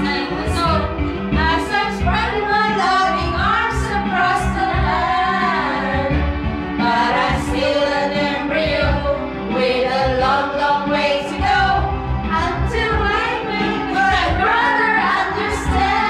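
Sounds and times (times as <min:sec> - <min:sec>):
backing music: 0:00.0 - 0:16.0
women singing together: 0:00.0 - 0:16.0.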